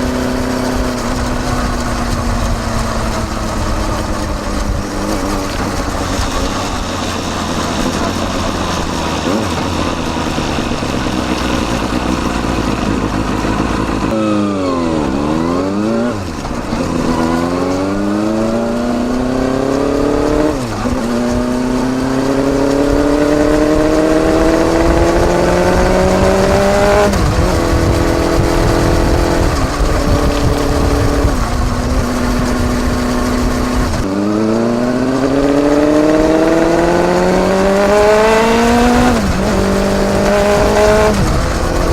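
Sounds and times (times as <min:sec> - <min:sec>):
motorcycle exhaust revving: 0:00.0 - 0:41.9.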